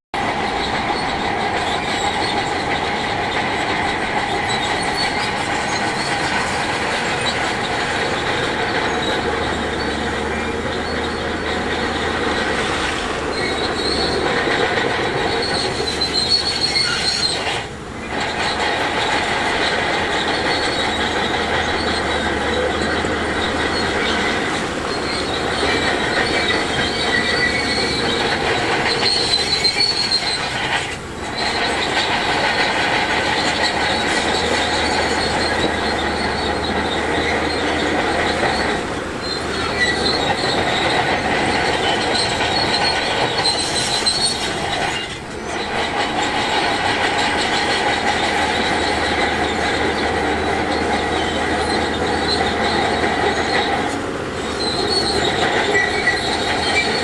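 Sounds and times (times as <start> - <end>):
bulldozer engine running: 0.1 - 57.0
bulldozer tracks squealing and clanking: 0.1 - 57.0.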